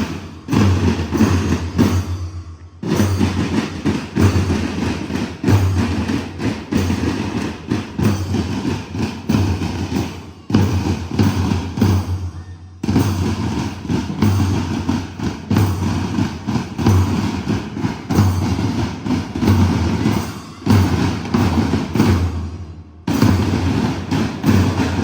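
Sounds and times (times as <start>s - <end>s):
marching band drums: 0.0s - 25.0s.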